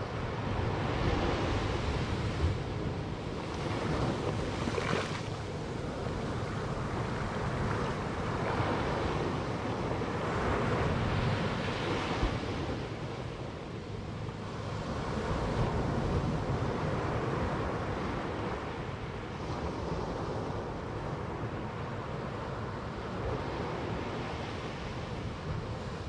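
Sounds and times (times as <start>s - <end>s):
surf washing up a beach: 0.0s - 26.0s.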